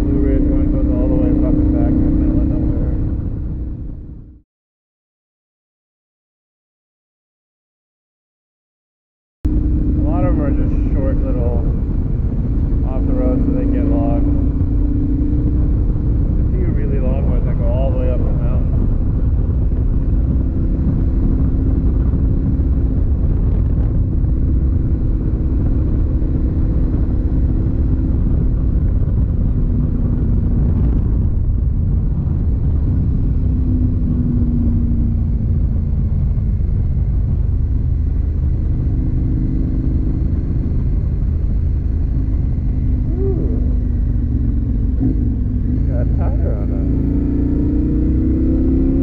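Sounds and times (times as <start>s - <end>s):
motorcycle engine running: 0.0s - 4.4s, 9.5s - 49.0s
wind rumble on microphone: 0.0s - 4.4s, 9.4s - 49.0s.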